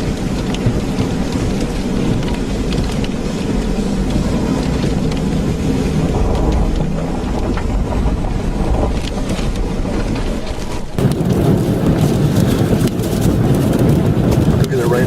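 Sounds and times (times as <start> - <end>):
rain ticking on car body: 0.0 - 15.0
wind buffeting vehicle: 0.0 - 15.0.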